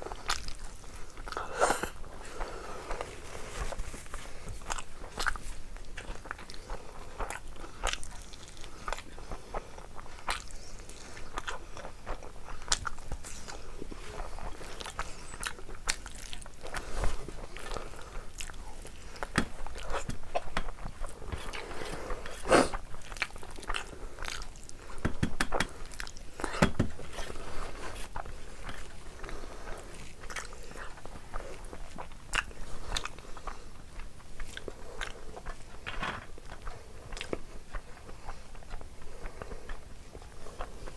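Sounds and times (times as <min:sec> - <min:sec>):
person chewing wet mouth clicks: 0:04.6 - 0:13.6, 0:14.2 - 0:35.8, 0:36.4 - 0:40.9.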